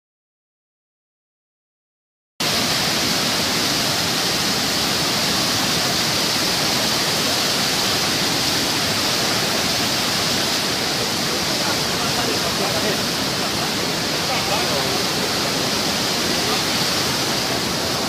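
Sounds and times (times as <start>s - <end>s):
flooded river rushing: 2.4s - 18.0s.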